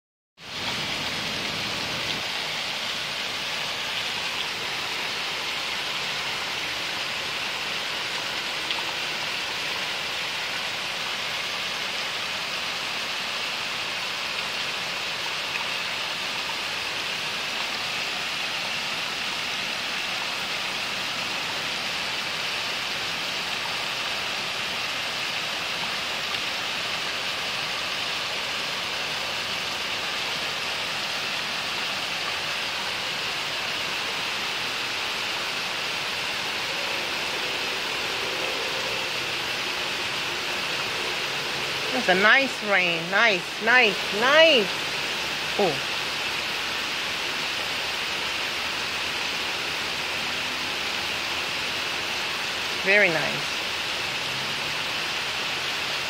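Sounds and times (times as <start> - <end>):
heavy rain falling: 0.4 - 56.0.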